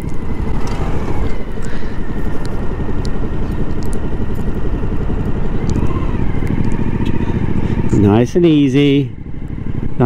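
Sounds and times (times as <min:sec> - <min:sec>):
motorcycle engine at low speed: 0:00.0 - 0:10.0.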